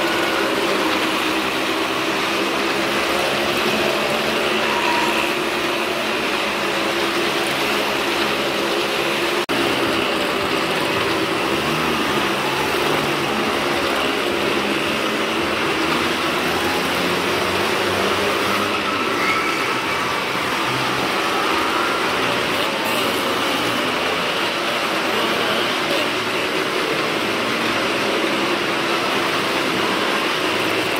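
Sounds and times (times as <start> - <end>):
motorcycle and car engines: 0.0 - 30.9.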